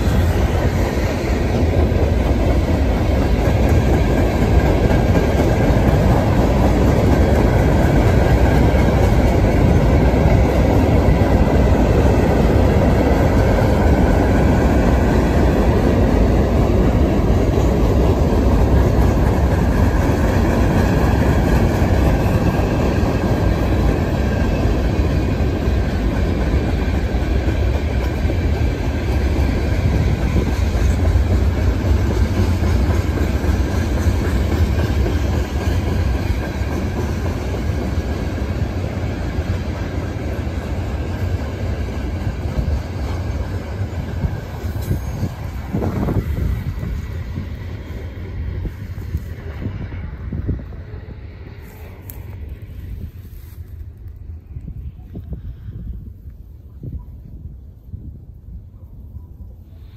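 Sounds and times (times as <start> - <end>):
freight train rolling on rails: 0.0 - 59.9.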